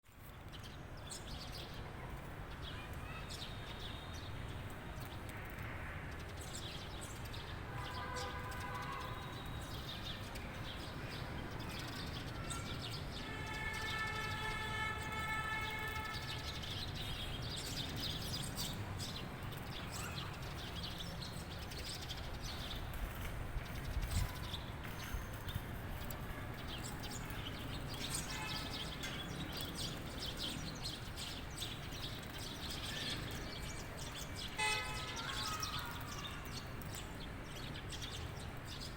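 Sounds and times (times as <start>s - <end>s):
small birds chirping and singing: 0.2s - 38.9s.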